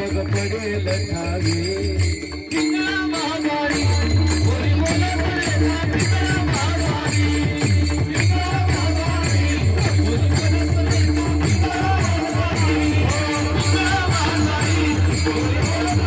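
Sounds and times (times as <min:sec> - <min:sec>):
jingling percussion: 0:00.0 - 0:16.0
steady drum beat: 0:00.0 - 0:16.0.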